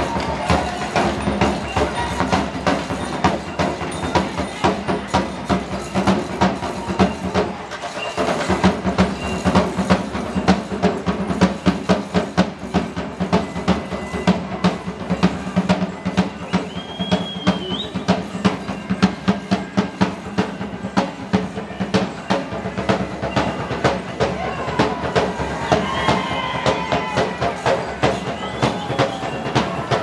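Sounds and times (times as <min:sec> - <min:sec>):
parade drums in steady rhythm: 0:00.0 - 0:30.0.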